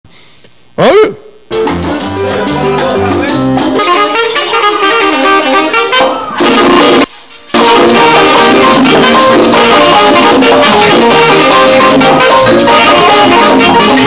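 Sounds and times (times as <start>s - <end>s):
drums: 1.5s - 14.0s
saxophones playing a melody: 1.6s - 14.0s.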